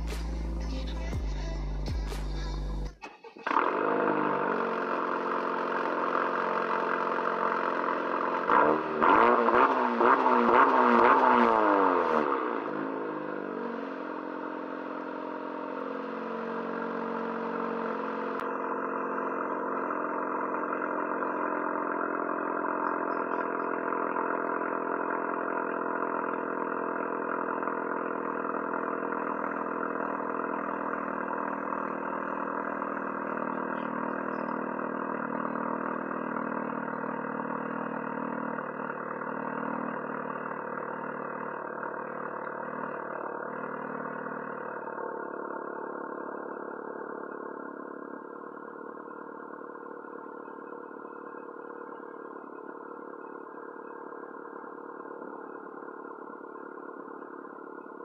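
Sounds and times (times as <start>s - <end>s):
car engine cold-starting and idling: 0.0s - 58.0s.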